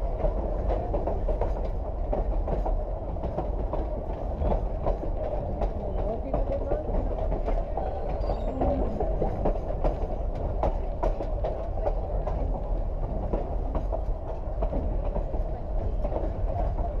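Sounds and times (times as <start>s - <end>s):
train rumbling along track: 0.0s - 17.0s
wheels clacking and rattling: 0.0s - 17.0s.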